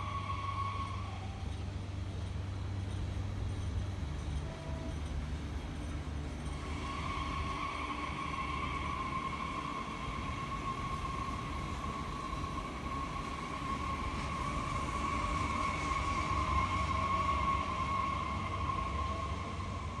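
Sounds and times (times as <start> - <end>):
train high-pitched whine: 0.0 - 20.0
train low rumble: 0.0 - 20.0.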